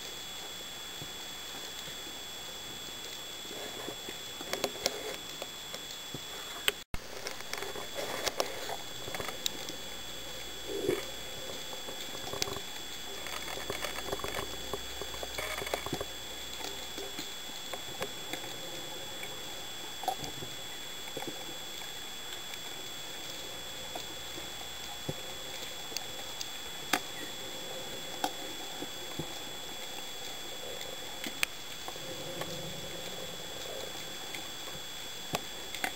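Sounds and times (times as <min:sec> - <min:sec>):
faint high whine: 0:00.0 - 0:35.9
underwater clicks and crackles: 0:00.0 - 0:35.9
faint gurgling: 0:06.2 - 0:35.9.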